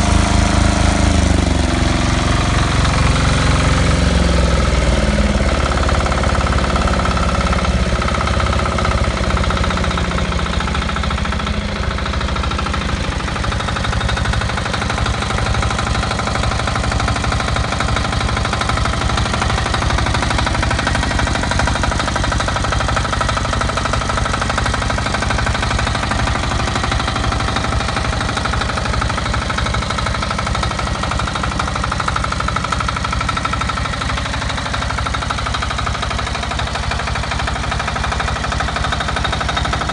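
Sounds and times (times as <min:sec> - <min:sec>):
pressure washer rattling: 0:00.0 - 0:39.9.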